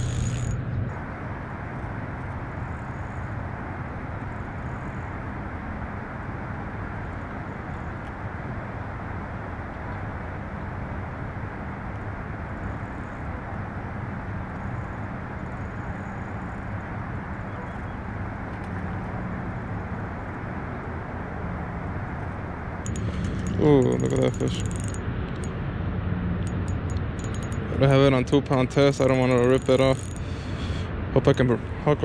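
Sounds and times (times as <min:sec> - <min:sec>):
faint hum: 0:00.0 - 0:32.0
low rumble of outdoor background: 0:00.0 - 0:32.0.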